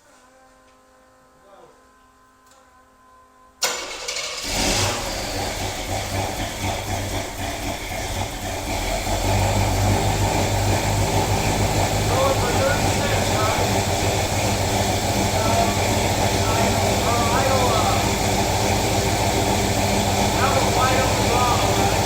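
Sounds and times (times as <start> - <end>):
car engine starting and running: 3.6 - 22.0.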